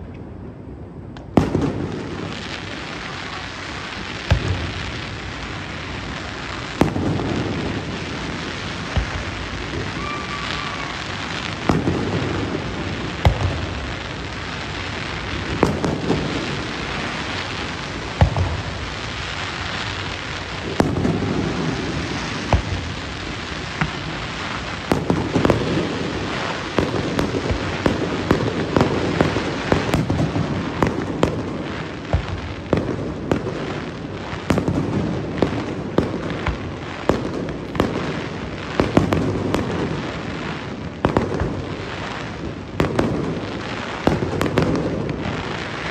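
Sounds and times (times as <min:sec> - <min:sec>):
crackling hiss: 0:00.0 - 0:45.9
fireworks bursting with sharp bangs: 0:00.0 - 0:45.9.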